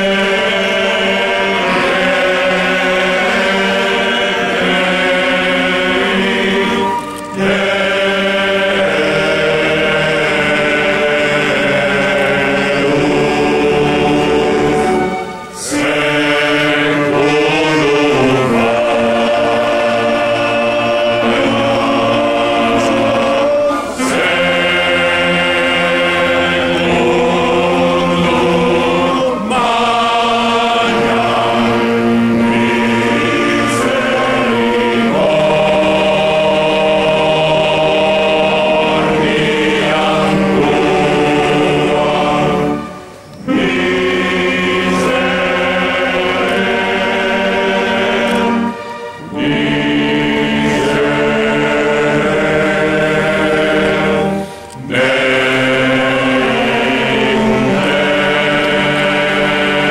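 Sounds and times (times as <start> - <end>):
male choir singing chant: 0.0 - 59.9
saxophones playing: 0.0 - 59.9.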